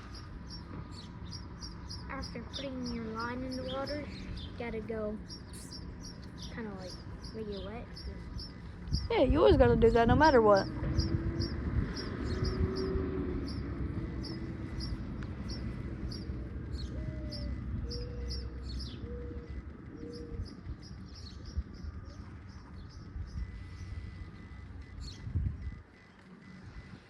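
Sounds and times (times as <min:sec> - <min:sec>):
low rumble: 0:00.0 - 0:26.0
birds chirping: 0:00.0 - 0:27.0
low hooting notes: 0:00.0 - 0:27.0.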